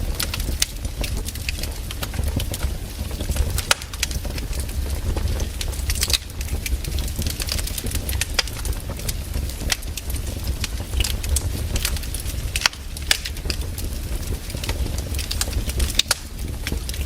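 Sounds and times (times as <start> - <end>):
fire rumbling: 0.0 - 17.0
firewood crackling and popping: 0.0 - 17.0.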